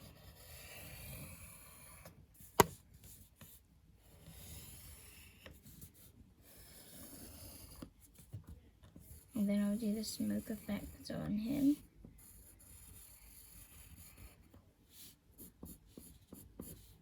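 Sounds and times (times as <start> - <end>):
pencil scratching drawing strokes: 0.0 - 8.3, 9.0 - 17.0.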